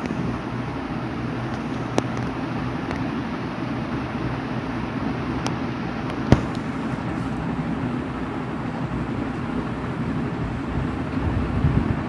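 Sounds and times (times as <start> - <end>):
rushing background noise: 0.0 - 12.0.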